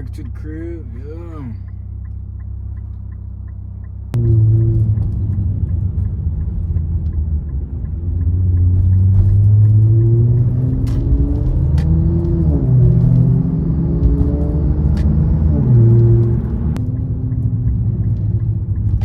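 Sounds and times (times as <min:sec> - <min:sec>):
car engine idling and accelerating: 0:00.0 - 0:19.0.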